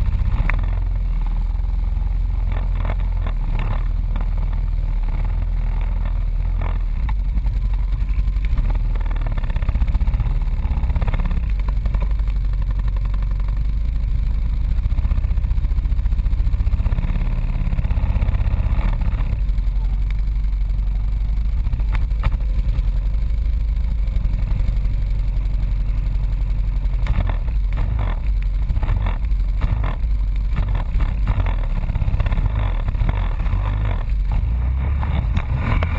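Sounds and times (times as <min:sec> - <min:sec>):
atv engine rumbling: 0:00.0 - 0:35.9.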